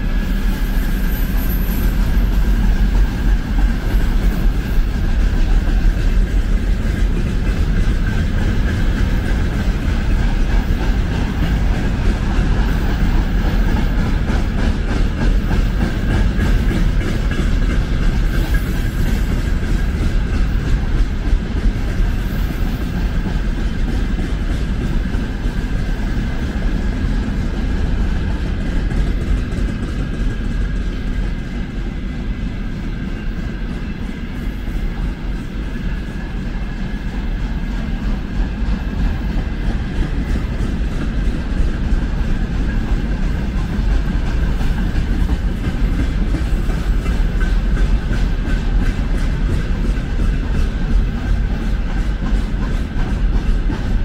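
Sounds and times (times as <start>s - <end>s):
freight train wagons rolling: 0.0s - 54.0s
wheels on rails: 0.0s - 54.0s.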